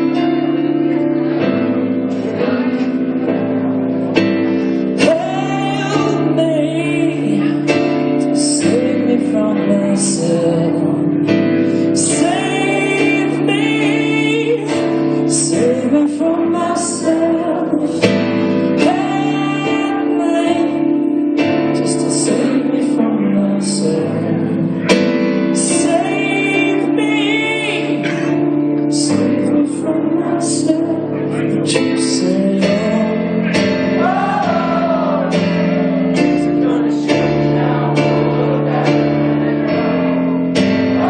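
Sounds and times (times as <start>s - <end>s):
person singing: 0.0s - 41.0s.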